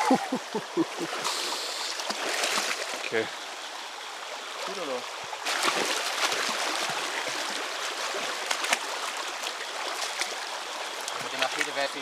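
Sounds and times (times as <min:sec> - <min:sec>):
water splashes: 0:00.0 - 0:03.2, 0:04.5 - 0:12.0
forest stream rushing: 0:00.0 - 0:12.0.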